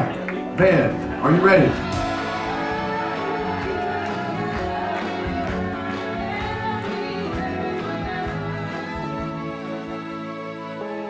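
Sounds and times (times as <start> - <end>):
music with sustained chords and beat: 0.0 - 11.0.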